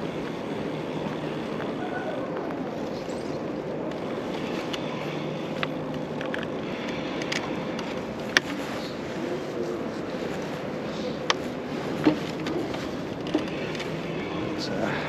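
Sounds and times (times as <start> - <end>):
bicycle rolling: 0.0 - 15.0.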